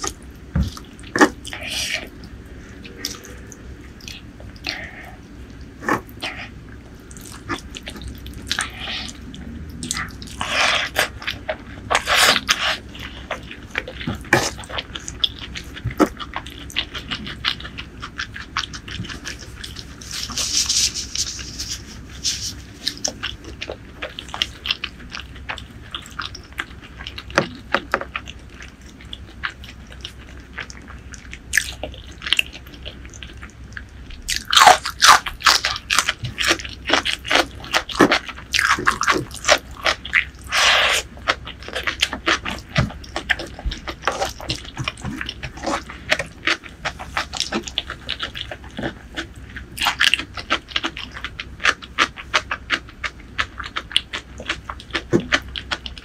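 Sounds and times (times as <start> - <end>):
wet chewing with mouth clicks: 0.0 - 56.0.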